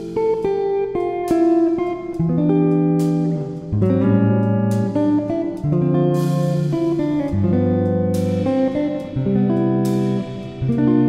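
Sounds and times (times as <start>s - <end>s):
string music with held chords: 0.0s - 11.0s.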